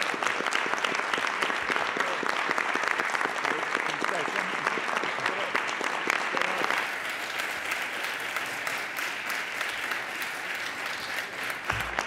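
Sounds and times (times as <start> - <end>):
room of people applauding: 0.0 - 12.0.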